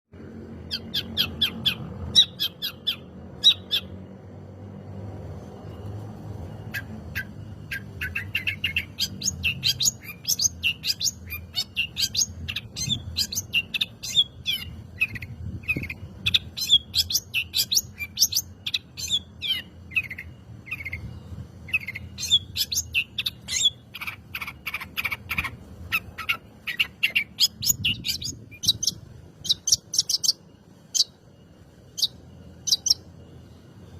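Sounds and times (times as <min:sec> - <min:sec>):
bird singing high chirps: 0:00.4 - 0:04.3, 0:05.5 - 0:33.9.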